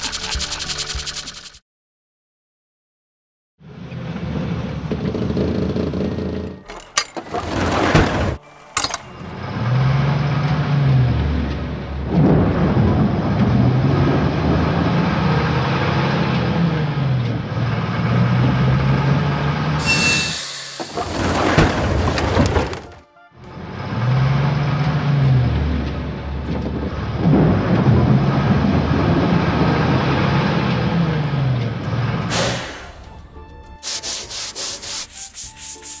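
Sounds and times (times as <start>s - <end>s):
cartoon truck engine revving: 3.6s - 8.4s, 9.2s - 33.2s.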